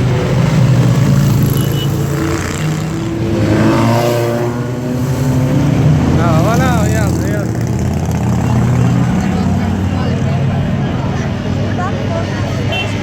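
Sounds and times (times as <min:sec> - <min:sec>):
motorcycle engines running: 0:00.0 - 0:13.0
motorcycle revving: 0:00.0 - 0:13.0.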